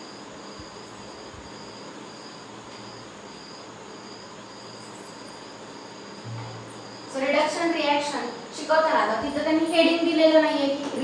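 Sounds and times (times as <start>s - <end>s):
cricket chirping: 0.0s - 11.0s
steady background hiss: 0.0s - 11.0s.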